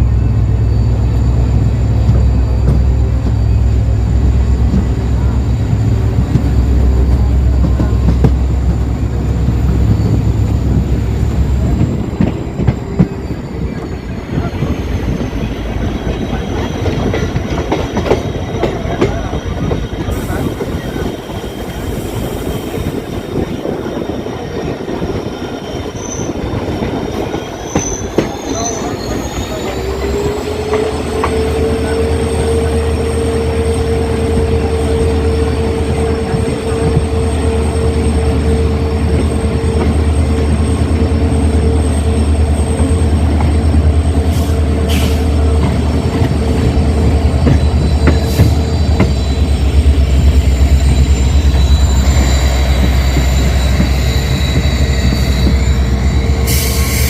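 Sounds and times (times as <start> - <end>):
locomotive hum and whine: 0.0 - 57.0
train wheels rattling on track: 0.0 - 57.0.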